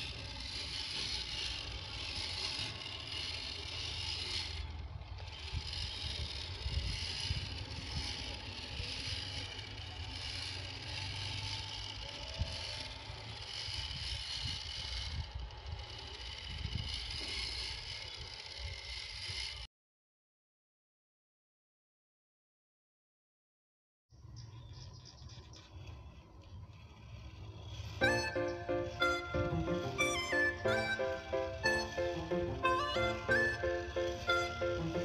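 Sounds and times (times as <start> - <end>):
electric drivetrain running: 0.0 - 19.7, 24.9 - 35.0.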